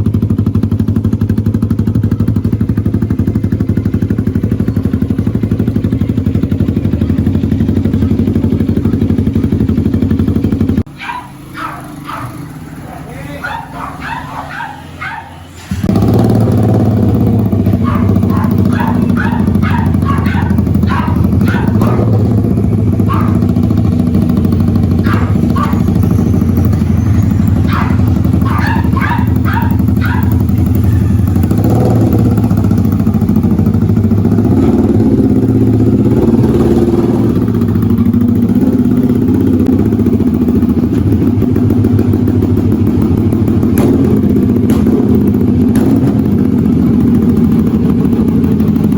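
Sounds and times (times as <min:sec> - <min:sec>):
motorcycle engine starting and idling: 0:00.0 - 0:48.9.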